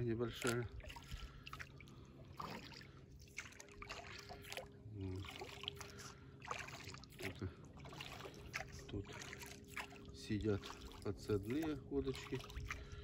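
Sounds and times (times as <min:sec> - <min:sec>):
distant boat motor hum: 0:00.0 - 0:13.0
water lapping at boat hull: 0:00.0 - 0:13.0.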